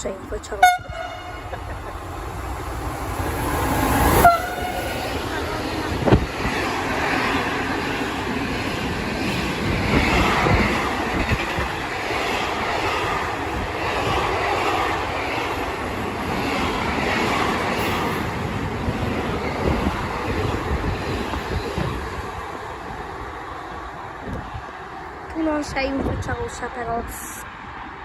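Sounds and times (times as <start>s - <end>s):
train rushing past: 0.0s - 28.0s.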